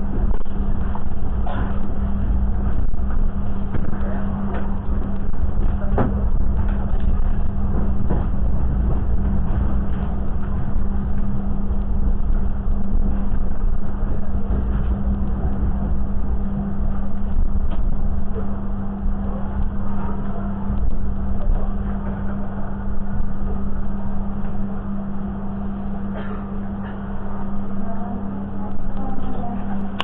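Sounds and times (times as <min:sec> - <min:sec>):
train rumbling inside coach: 0:00.0 - 0:30.0.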